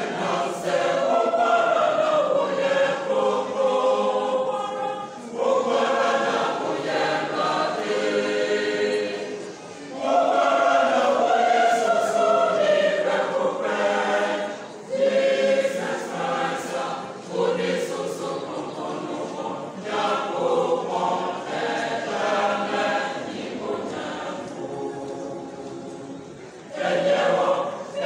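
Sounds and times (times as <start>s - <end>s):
church choir singing: 0.0s - 28.0s.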